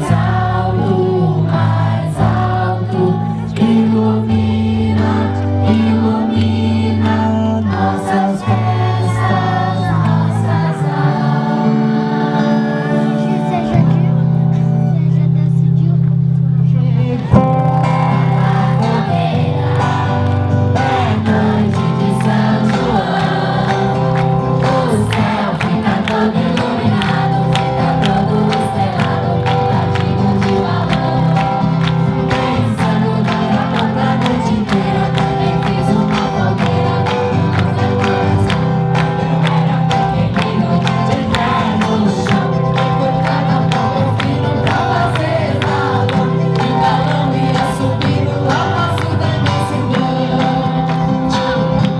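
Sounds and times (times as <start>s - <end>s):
group singing folk song: 0.0s - 14.6s, 16.2s - 51.9s.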